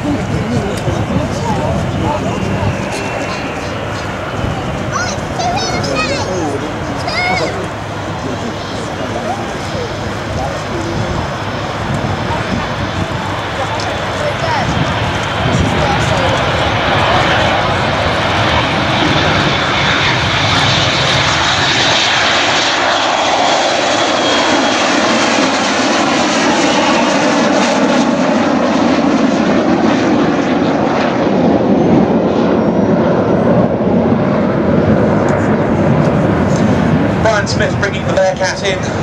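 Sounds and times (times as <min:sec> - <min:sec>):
aircraft engine noise: 0:00.0 - 0:39.0.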